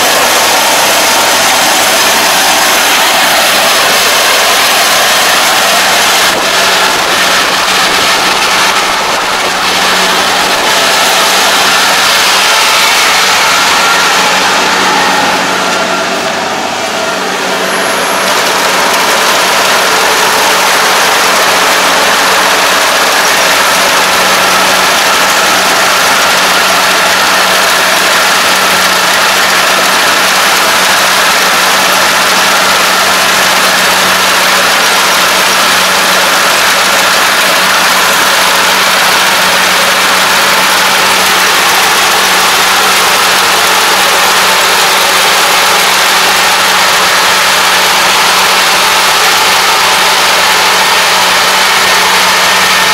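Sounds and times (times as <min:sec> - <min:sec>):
combine harvester running: 0:00.0 - 0:52.9.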